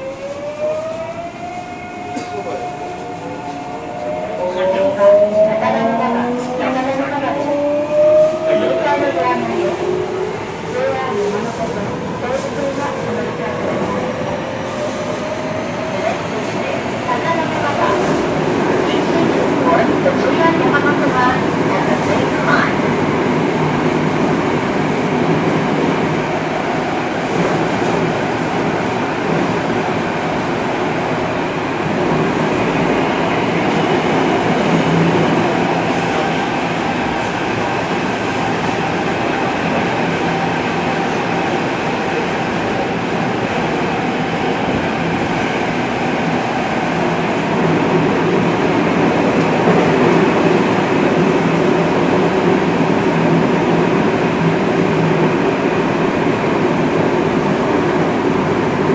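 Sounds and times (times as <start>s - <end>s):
subway train rumbling in tunnel: 0.0s - 58.9s.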